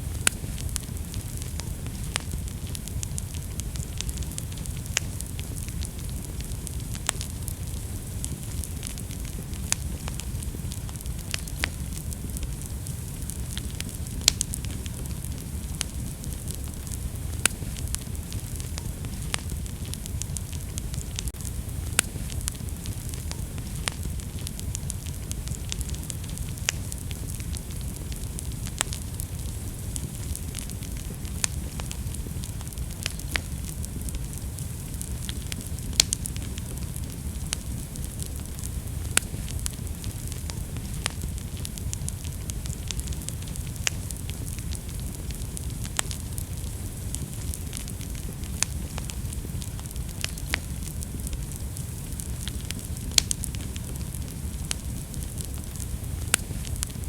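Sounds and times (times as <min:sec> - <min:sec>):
fire flames rumbling: 0:00.0 - 0:57.0
wood fire crackling and popping: 0:00.0 - 0:57.0.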